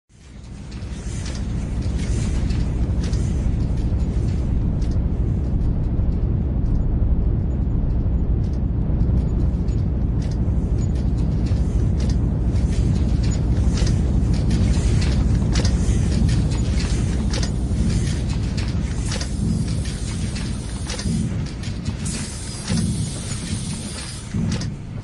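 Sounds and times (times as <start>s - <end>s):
industrial machinery rumbling: 0.1s - 25.0s
sharp clicks and crackles: 0.1s - 25.0s.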